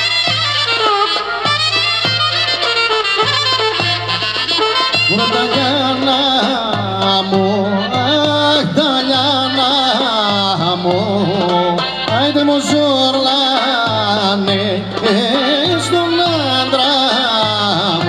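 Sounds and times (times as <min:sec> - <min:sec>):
folk dance music: 0:00.0 - 0:18.0.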